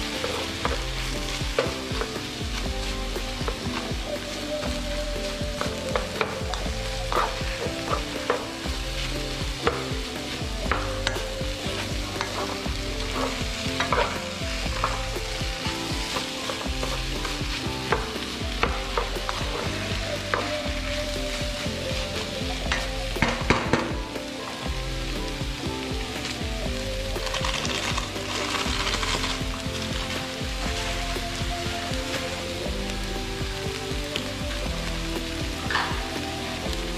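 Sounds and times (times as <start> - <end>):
food sizzling in a pan: 0.0 - 36.9.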